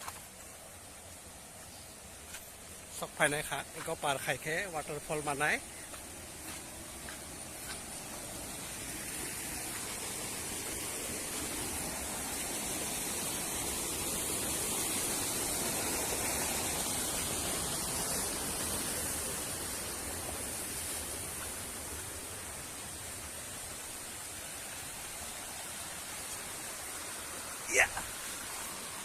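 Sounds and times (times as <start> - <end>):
waterfall rushing: 2.7 - 29.0.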